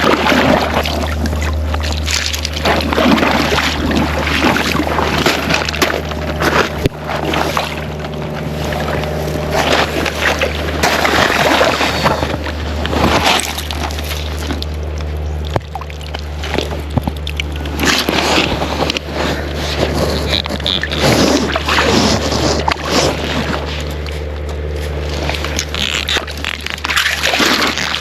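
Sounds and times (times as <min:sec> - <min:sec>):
steady low rumble: 0:00.0 - 0:28.0
water sloshing and splashing: 0:00.0 - 0:28.0.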